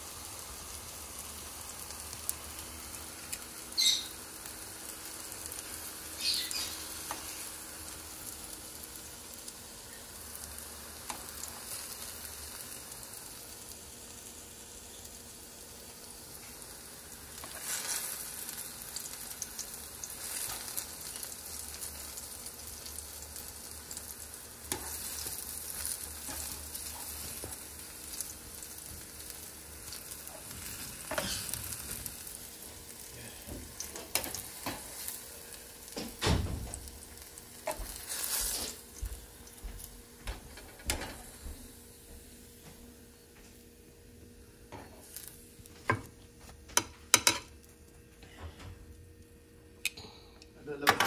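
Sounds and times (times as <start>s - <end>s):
plantain frying in oil: 0.0s - 41.6s.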